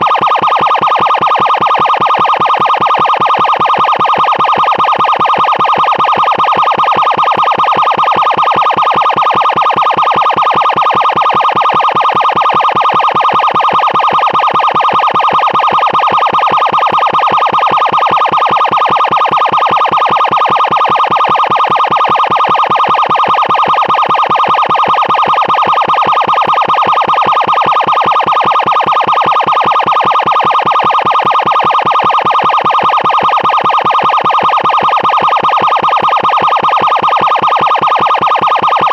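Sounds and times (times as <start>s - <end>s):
pulsing electronic siren: 0.0s - 38.9s.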